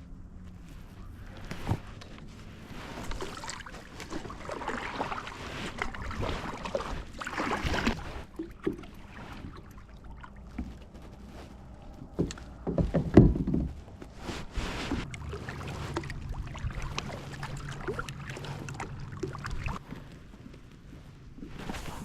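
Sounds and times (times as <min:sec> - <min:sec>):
water sloshing: 0:00.1 - 0:22.0
paddle strokes splashing: 0:00.6 - 0:22.0.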